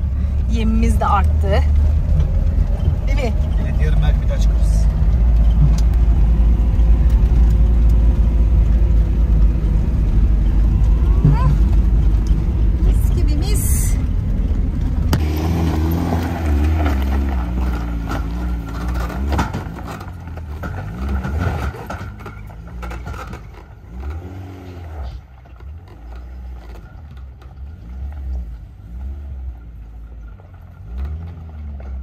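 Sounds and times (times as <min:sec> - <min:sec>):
car engine revving: 0:00.0 - 0:32.0
gravel crunching under tyres: 0:00.0 - 0:32.0.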